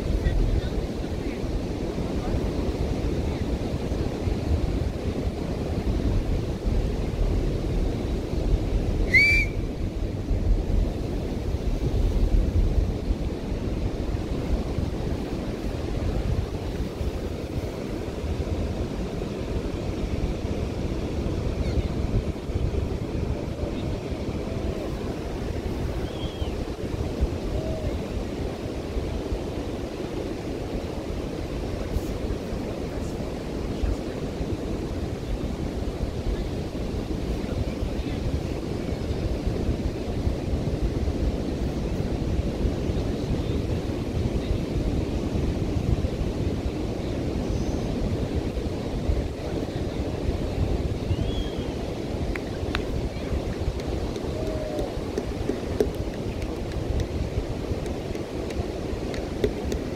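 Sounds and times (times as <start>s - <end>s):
ocean surf washing onto beach: 0.0s - 59.9s
wind rumbling on microphone: 0.0s - 59.9s.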